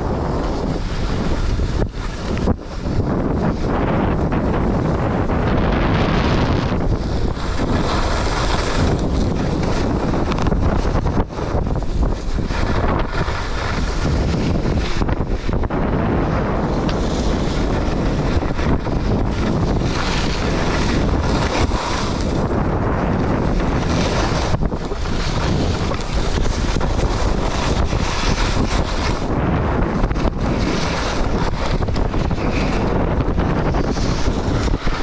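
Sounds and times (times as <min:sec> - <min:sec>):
skis sliding on snow: 0:00.0 - 0:35.0
wind rushing over microphone: 0:00.0 - 0:35.0.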